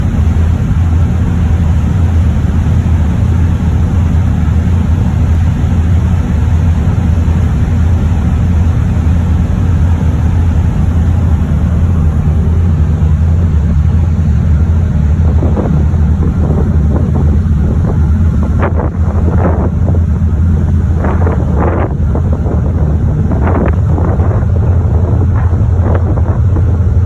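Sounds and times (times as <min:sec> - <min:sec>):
low rumble: 0:00.0 - 0:27.0
sea water rushing: 0:00.0 - 0:27.0
wind buffeting microphone: 0:00.0 - 0:27.0.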